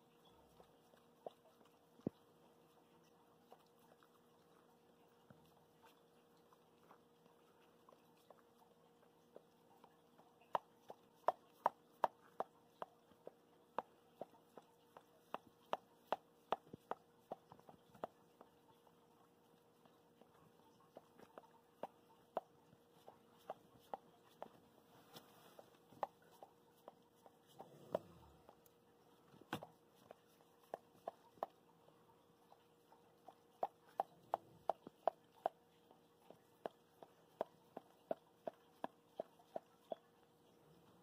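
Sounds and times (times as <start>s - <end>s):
dog licking puppy wet clicks: 0.0s - 41.0s.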